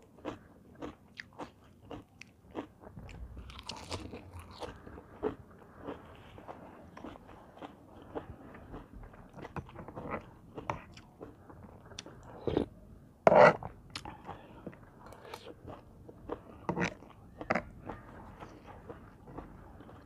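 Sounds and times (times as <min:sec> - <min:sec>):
chewing and crunching food: 0:00.0 - 0:12.7, 0:13.3 - 0:20.0.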